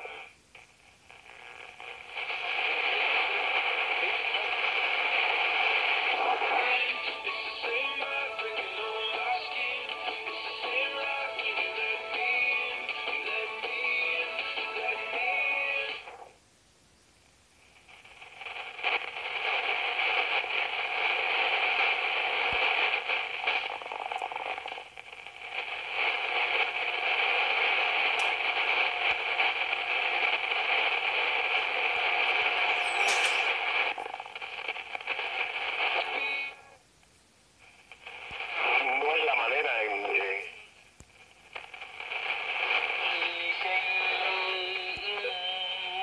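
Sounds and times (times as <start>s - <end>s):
shortwave radio static and hiss: 0.0s - 46.0s.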